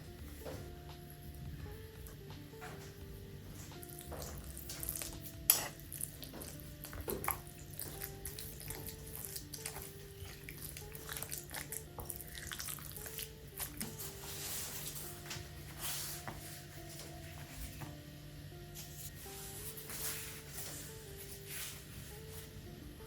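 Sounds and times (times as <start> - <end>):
soft background music: 0.0 - 23.0.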